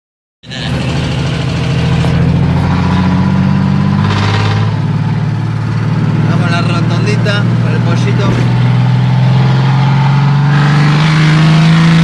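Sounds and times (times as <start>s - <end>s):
engine through open exhaust: 0.4s - 12.0s.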